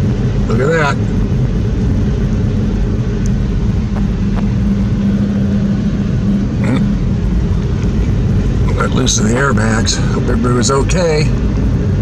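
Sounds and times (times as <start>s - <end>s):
car engine and road rumble: 0.0s - 12.0s
steady hum: 0.0s - 12.0s.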